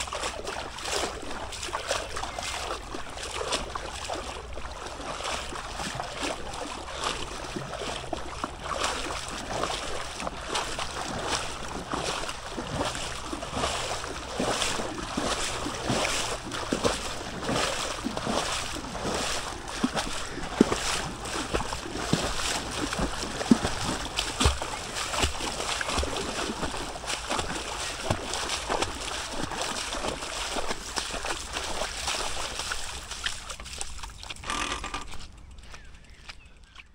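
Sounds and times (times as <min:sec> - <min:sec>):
river water rushing and splashing: 0:00.0 - 0:34.5.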